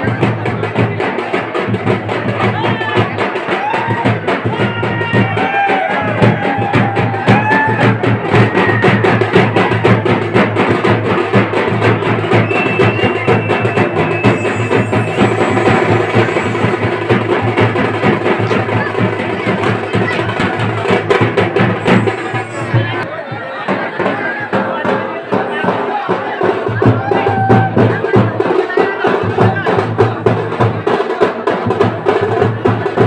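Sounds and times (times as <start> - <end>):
fast drumming: 0.0 - 33.0.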